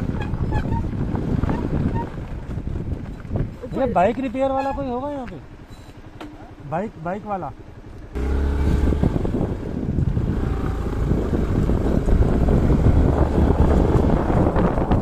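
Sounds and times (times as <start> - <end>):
wind buffeting on microphone: 0.0 - 6.1, 8.1 - 15.0
motorcycle engine running: 0.0 - 15.0.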